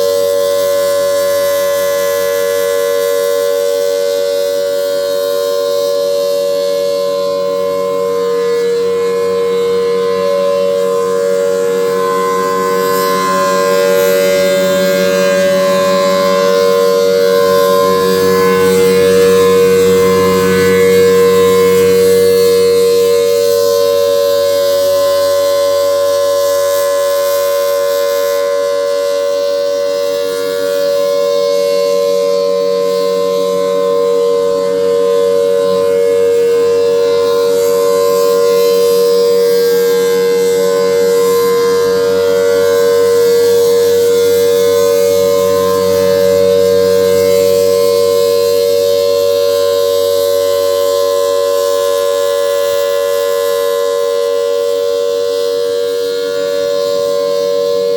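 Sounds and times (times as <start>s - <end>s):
outdoor warning siren steady tone: 0.0s - 57.9s.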